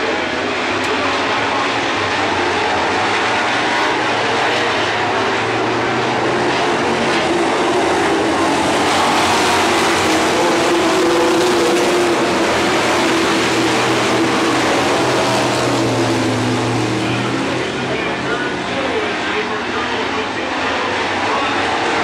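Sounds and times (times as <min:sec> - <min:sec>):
racing car engines roaring: 0:00.0 - 0:22.0.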